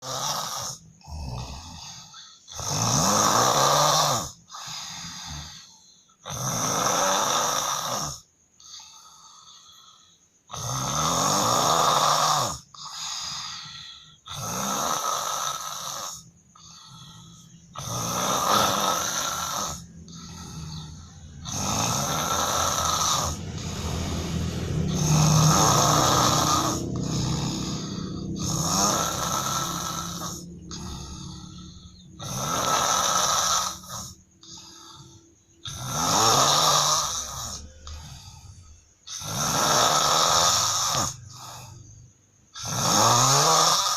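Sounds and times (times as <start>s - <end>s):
man snoring heavily: 0.0s - 43.9s.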